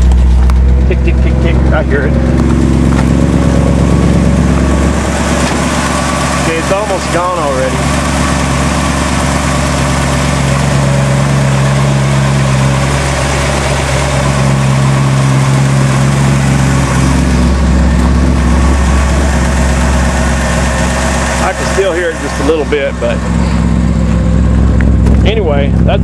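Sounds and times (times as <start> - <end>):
car engine idling: 0.0 - 26.0
engine lifter ticking: 0.0 - 26.0.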